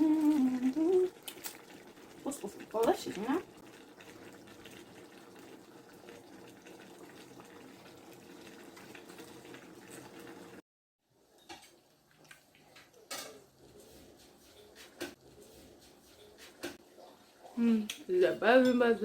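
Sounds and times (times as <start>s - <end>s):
pot of sauce bubbling: 0.0s - 19.0s.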